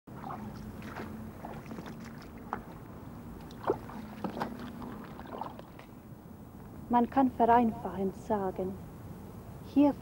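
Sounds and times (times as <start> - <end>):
faint steady hum: 0.1 - 10.0.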